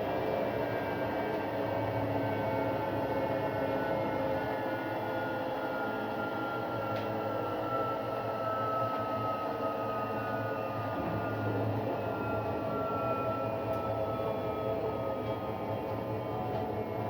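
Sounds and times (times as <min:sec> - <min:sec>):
washing machine whining drone: 0:00.0 - 0:17.0.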